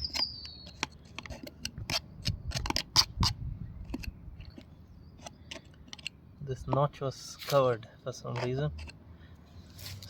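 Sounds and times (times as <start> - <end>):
chainsaw parts clicking and scraping: 0.0 - 9.0.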